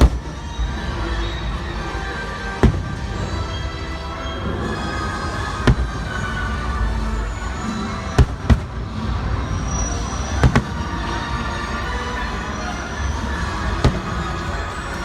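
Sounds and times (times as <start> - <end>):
fireworks bangs: 0.0 - 12.3, 13.1 - 15.0.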